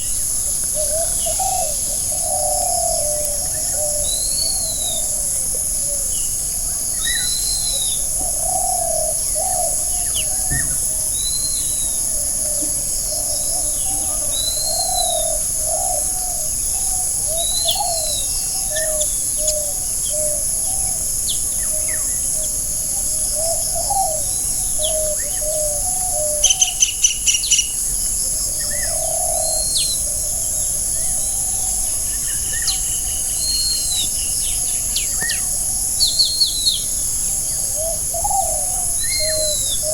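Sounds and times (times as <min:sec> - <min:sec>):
lower bird calls: 0:00.0 - 0:27.8, 0:28.4 - 0:39.9.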